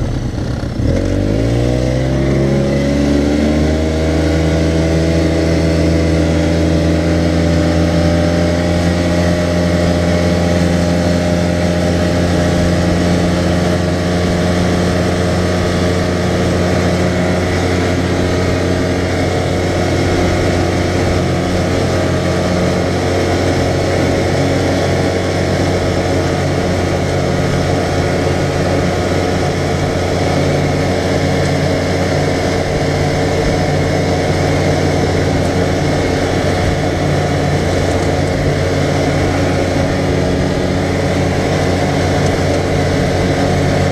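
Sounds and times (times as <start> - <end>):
continuous rushing noise: 0.0 - 43.9
utility vehicle engine droning: 0.0 - 43.9.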